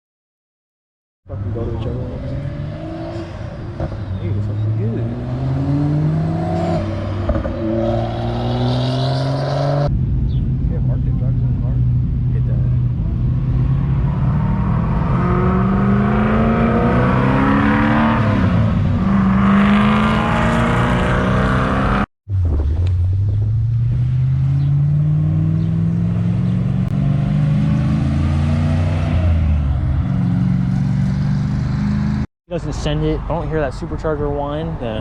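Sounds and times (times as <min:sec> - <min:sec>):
car engine accelerating: 0:01.3 - 0:32.3.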